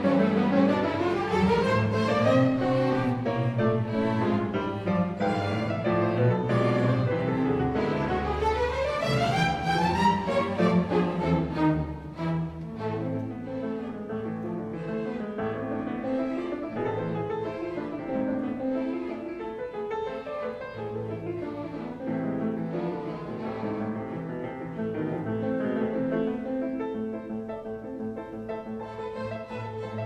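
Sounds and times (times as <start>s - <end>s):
bowed strings: 0.0s - 25.2s, 28.6s - 30.0s
piano: 0.0s - 30.0s.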